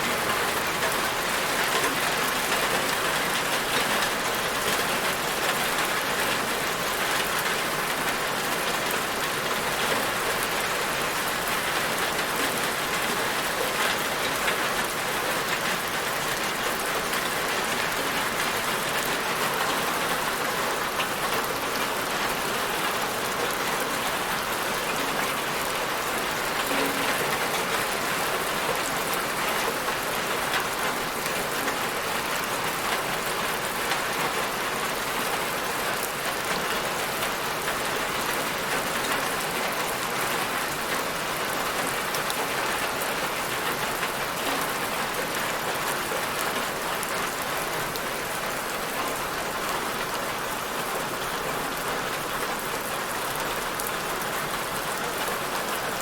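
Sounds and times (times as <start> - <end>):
raindrops pattering on a surface: 0.0 - 56.0.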